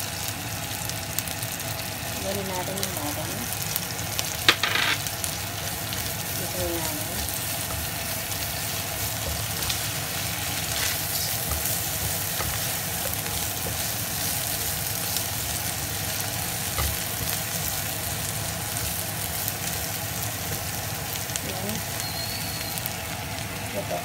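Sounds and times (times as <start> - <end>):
shrimp sizzling in a wok: 0.0 - 24.0.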